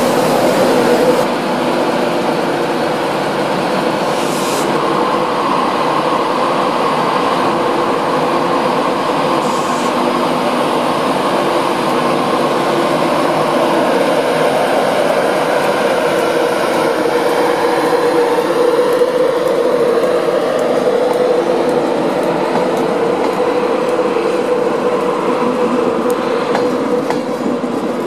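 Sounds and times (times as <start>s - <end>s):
electric locomotive humming: 0.0s - 28.0s.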